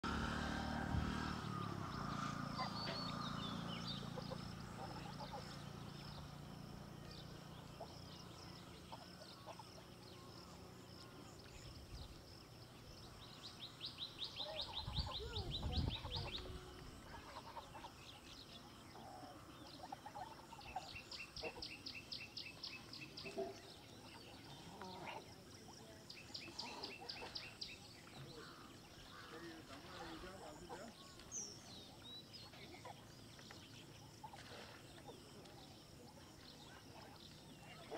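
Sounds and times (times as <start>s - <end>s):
small birds trilling: 0.1s - 37.9s.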